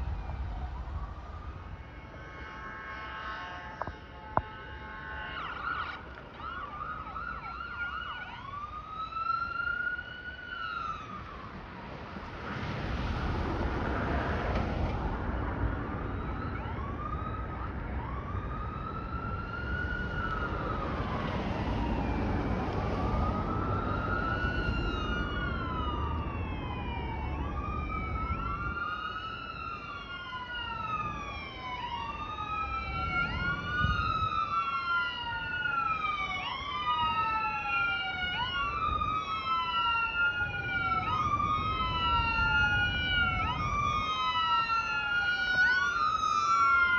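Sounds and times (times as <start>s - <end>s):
emergency sirens wailing: 0.0s - 46.9s.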